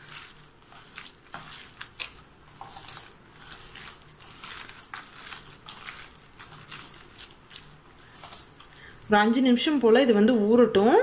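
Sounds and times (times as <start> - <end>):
hand squishing wet mixture: 0.0 - 11.0.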